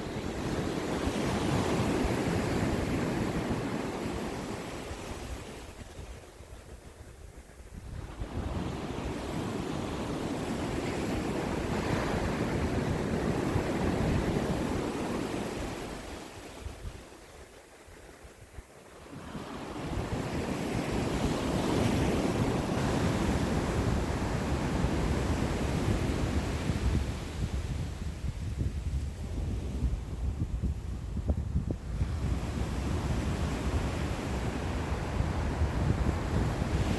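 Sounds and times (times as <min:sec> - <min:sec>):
ocean waves breaking on shore: 0:00.0 - 0:36.9
wind on microphone: 0:00.0 - 0:36.9.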